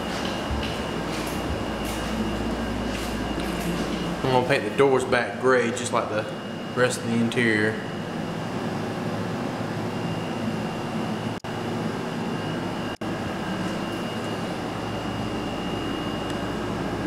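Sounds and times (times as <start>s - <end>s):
fan humming with high whine: 0.0s - 17.0s.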